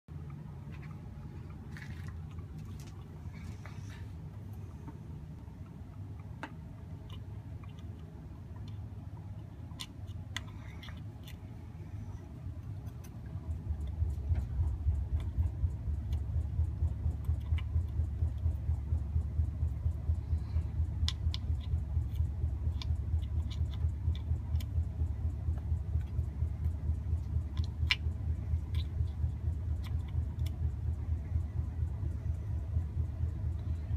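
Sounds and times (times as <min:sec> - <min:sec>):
low pulsing rumble: 0:00.1 - 0:33.9.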